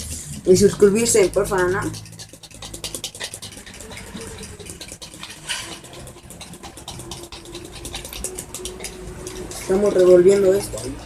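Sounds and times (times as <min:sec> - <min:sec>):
utensil whisking egg: 0:00.0 - 0:11.0.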